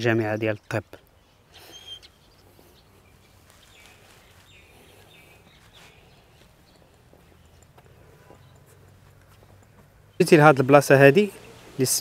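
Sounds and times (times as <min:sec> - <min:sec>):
high bird chirps: 0:00.5 - 0:10.4.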